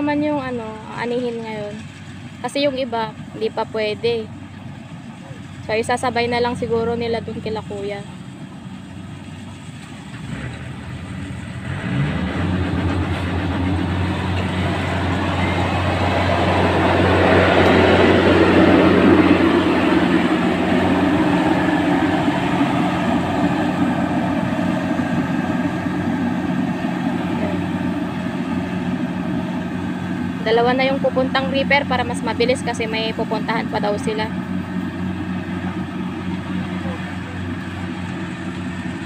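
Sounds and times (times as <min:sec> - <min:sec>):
harvester engine humming: 0:00.0 - 0:39.0.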